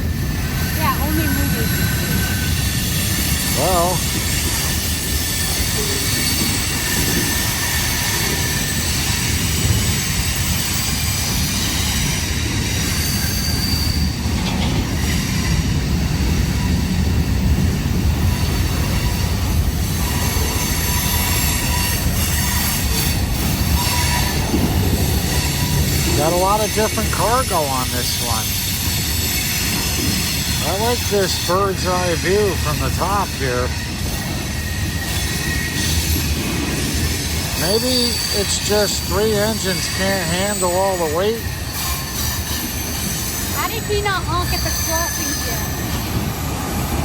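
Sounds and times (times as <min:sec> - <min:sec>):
train wheels rumbling on rail: 0:00.0 - 0:47.0
high-pitched wheel squeal: 0:00.6 - 0:17.1, 0:18.2 - 0:46.9.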